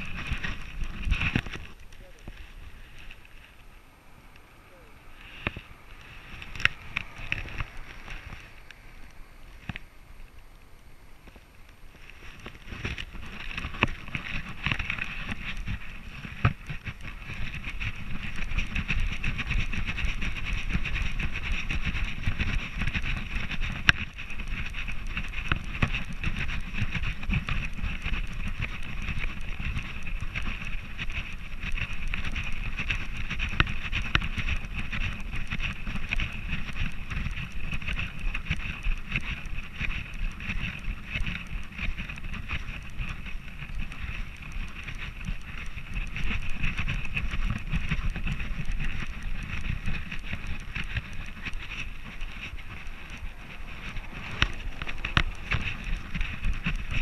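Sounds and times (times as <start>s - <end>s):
camera rubbing and jostling: 0.0s - 3.7s, 5.2s - 10.4s, 11.2s - 57.0s.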